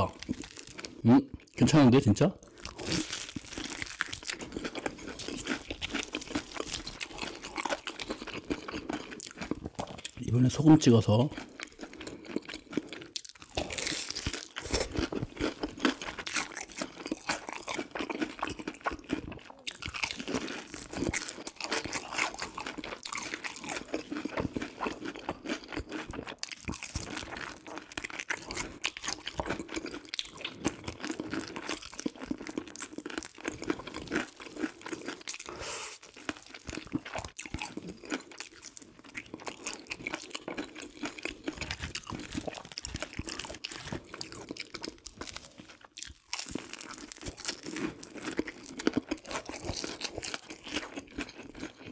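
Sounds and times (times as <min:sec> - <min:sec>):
crunching fried chicken: 0:00.0 - 0:01.8, 0:02.4 - 0:51.9.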